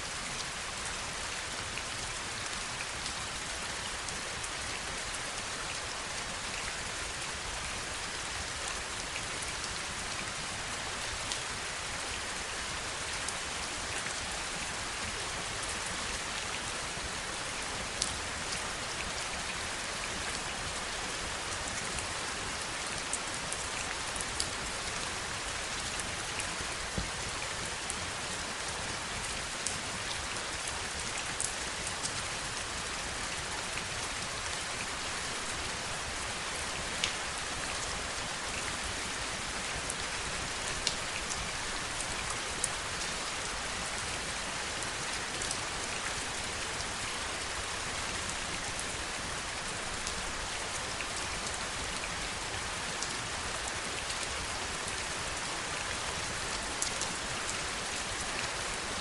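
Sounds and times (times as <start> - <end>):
heavy rainfall: 0.0 - 59.0.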